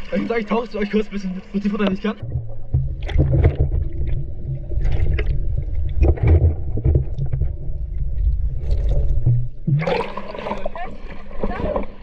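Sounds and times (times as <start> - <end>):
bubbling and gurgling: 0.0 - 12.0
low underwater rumble: 1.7 - 12.0.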